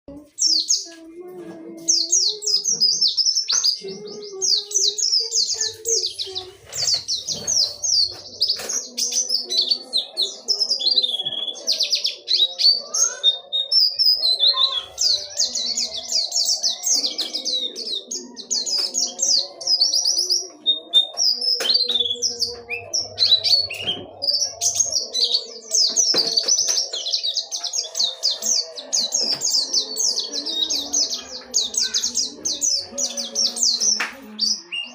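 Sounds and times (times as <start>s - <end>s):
bird singing high twittering trills: 1.9s - 34.9s.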